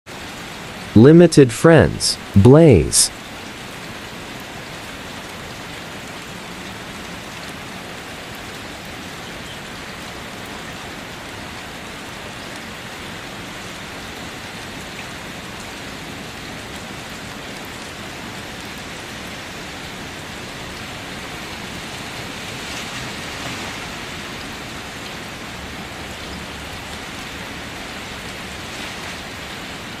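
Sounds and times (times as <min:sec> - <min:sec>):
steady rainfall: 0:00.1 - 0:30.0.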